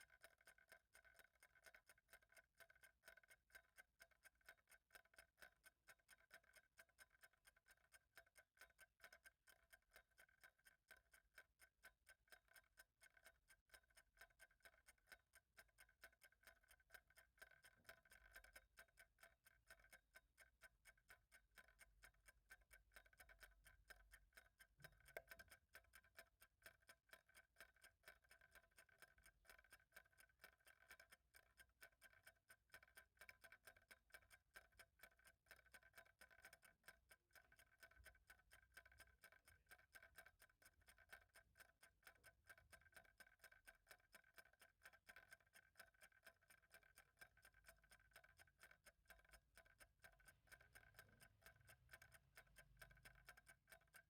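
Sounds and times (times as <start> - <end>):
clock ticking: 2.9 - 54.0.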